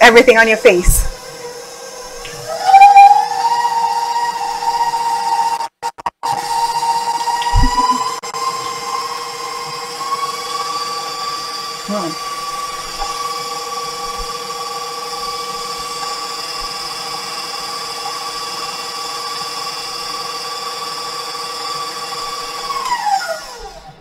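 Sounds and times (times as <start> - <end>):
electric stand mixer whining: 0.0 - 24.0.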